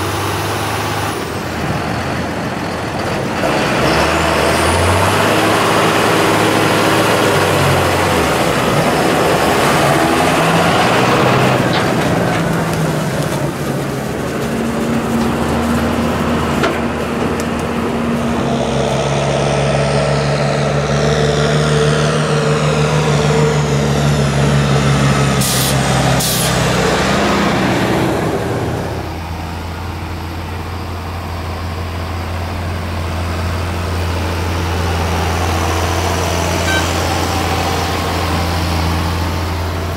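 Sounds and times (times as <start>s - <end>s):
tractor diesel engines running: 0.0s - 39.9s.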